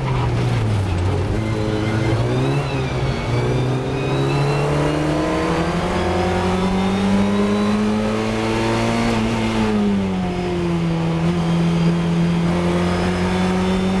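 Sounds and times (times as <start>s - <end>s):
race car engine pulling hard: 0.0s - 14.0s.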